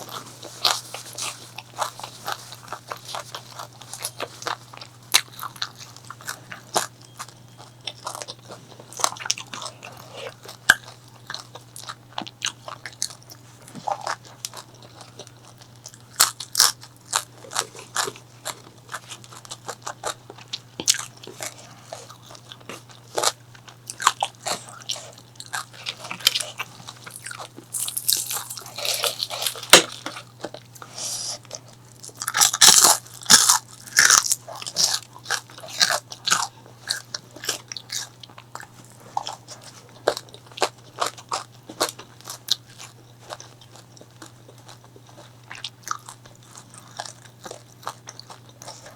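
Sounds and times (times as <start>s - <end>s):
chewing crispy food: 0.0s - 48.9s.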